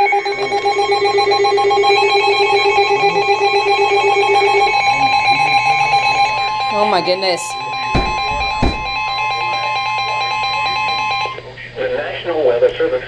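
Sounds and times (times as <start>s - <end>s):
electronic alarm tones: 0.0s - 11.4s.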